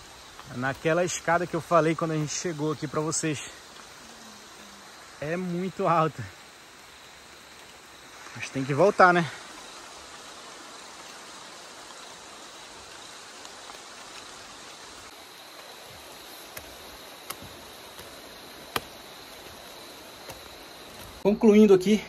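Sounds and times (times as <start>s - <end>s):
distant running water: 0.0s - 22.0s
high insect drone: 0.0s - 22.0s.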